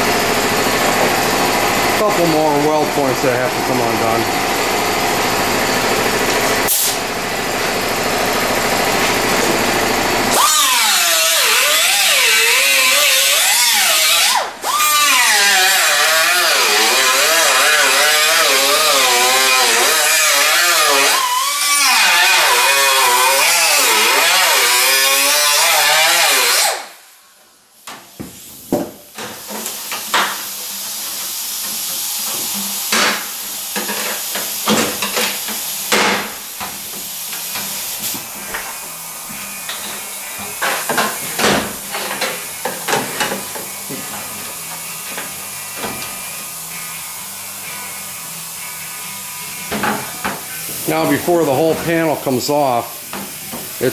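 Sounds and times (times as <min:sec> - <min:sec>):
air cut-off wheel grinding metal: 0:00.0 - 0:27.0, 0:29.3 - 0:53.9.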